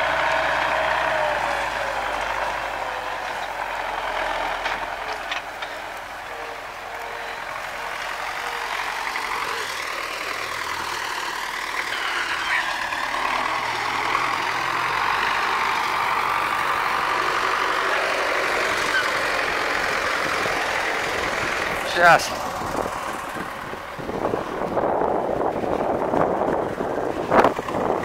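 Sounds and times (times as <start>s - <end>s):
tractor diesel engine driving by: 0.0s - 28.0s.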